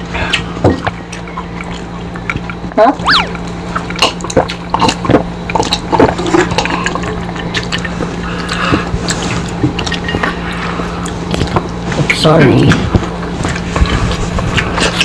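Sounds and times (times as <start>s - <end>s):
steady low hum: 0.0s - 15.0s
wet chewing and lip smacks: 0.3s - 15.0s.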